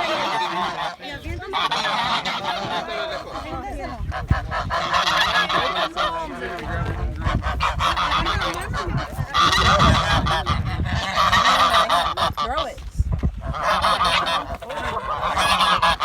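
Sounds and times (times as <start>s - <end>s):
flock of geese honking: 0.0s - 12.8s, 13.4s - 16.0s.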